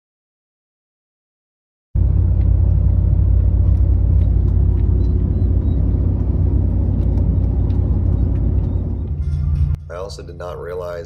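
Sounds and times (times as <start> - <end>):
truck road rumble: 2.0 - 11.0.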